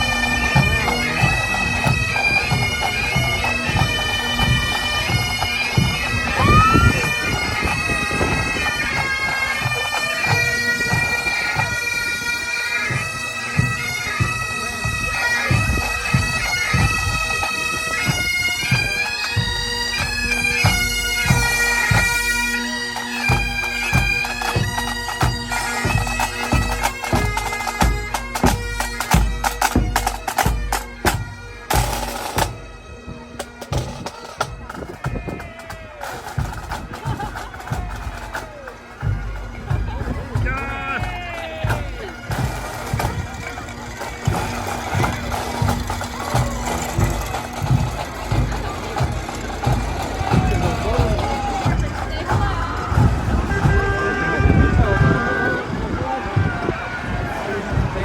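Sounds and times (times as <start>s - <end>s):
drum beats: 0.0s - 12.2s, 12.9s - 32.7s, 33.3s - 58.0s
bagpipes playing: 0.0s - 58.0s.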